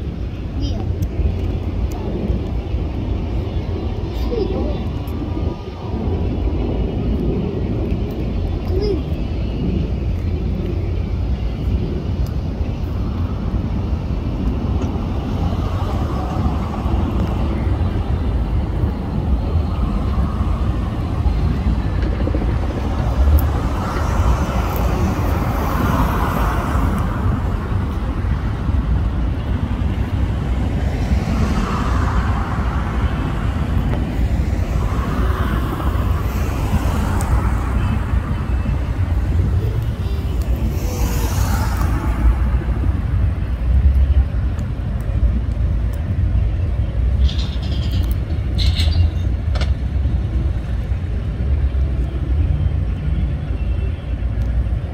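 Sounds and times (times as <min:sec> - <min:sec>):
low rumble of road traffic: 0:00.0 - 0:54.9.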